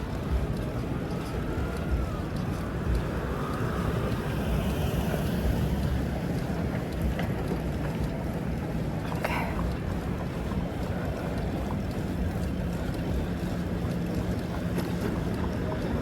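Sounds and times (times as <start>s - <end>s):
steady low rumble: 0.0s - 16.0s
wind buffeting microphone: 0.0s - 16.0s.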